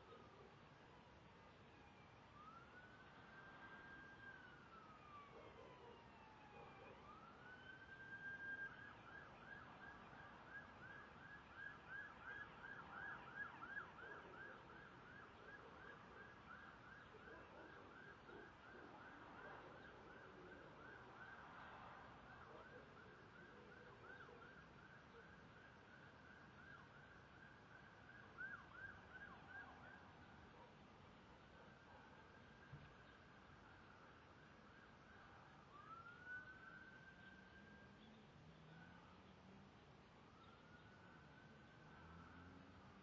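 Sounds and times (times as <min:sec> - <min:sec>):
faint emergency siren: 0:00.0 - 0:43.0.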